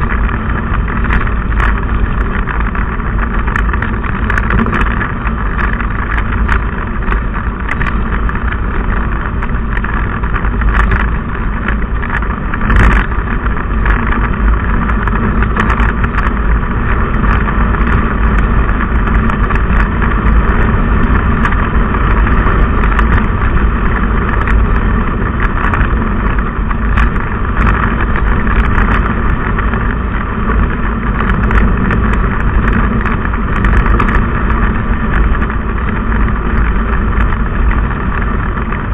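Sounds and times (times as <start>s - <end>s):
road and wind noise: 0.0s - 38.9s
vehicle engine drone: 0.0s - 38.9s.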